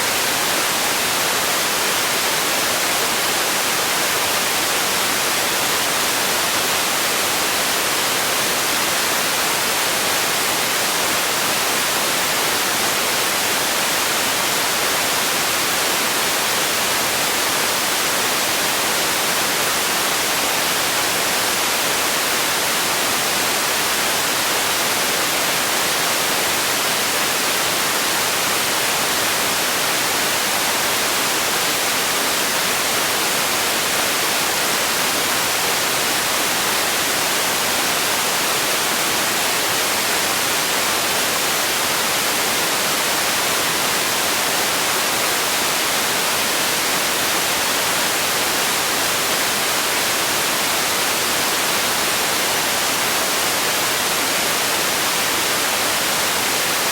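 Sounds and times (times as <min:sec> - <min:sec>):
steady white noise hiss: 0:00.0 - 0:56.9.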